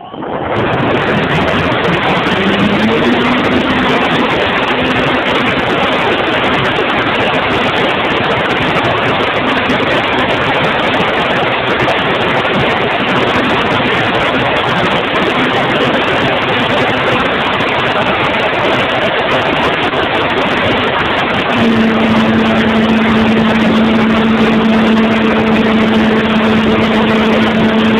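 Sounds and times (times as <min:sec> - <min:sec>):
airflow rushing over microphone: 0:00.0 - 0:27.9
faint propeller engine drone: 0:00.0 - 0:27.9.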